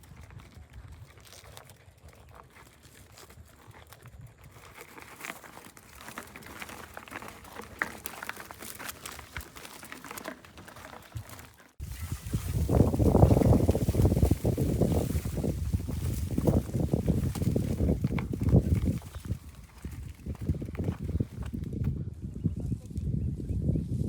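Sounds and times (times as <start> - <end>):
dry leaves and gravel crunching: 0.0 - 24.0.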